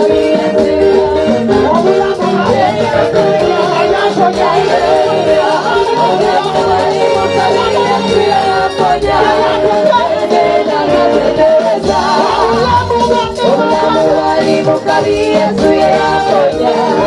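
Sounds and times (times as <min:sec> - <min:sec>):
choir singing praise music: 0:00.0 - 0:17.0.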